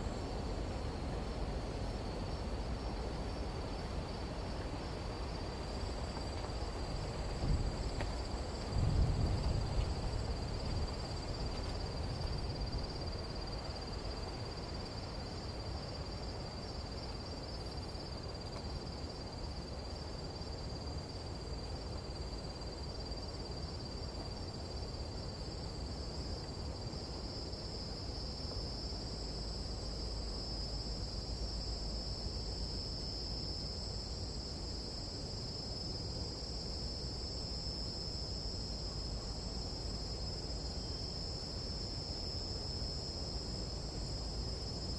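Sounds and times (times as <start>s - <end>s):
low rumble of wind: 0.0s - 44.9s.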